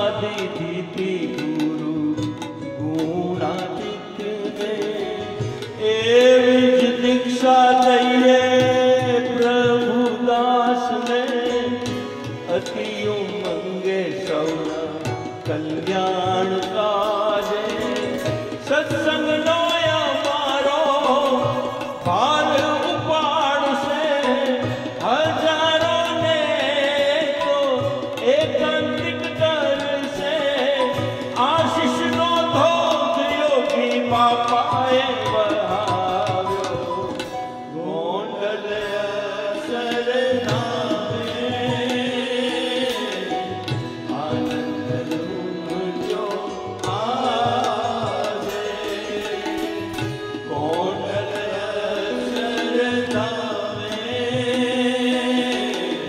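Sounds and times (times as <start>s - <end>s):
devotional song: 0.0s - 56.0s
tabla beat: 0.0s - 56.0s.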